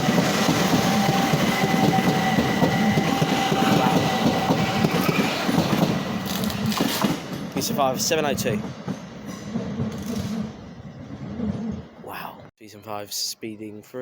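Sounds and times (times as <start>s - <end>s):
train wheels clattering over joints: 0.0s - 11.9s
train whine: 0.0s - 12.5s.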